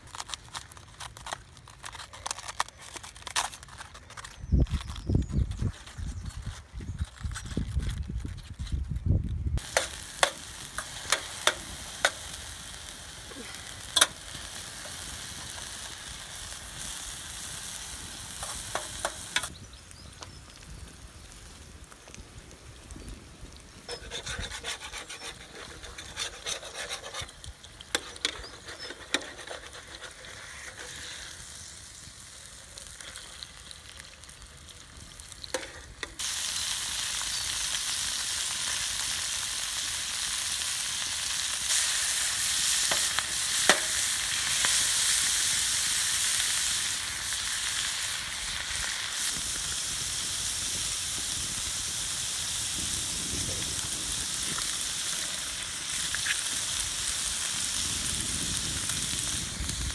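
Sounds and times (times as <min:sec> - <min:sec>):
wood fire crackling: 0:00.0 - 0:59.9
food sizzling in a pan: 0:09.6 - 0:59.9.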